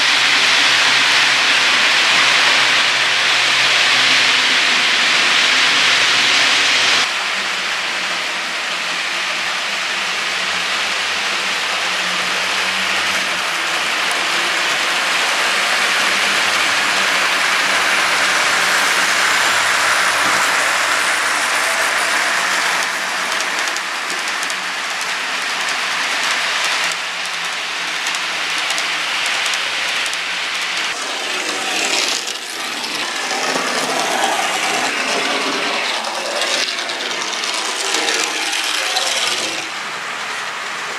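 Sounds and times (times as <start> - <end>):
model trains rolling: 0.0 - 40.9.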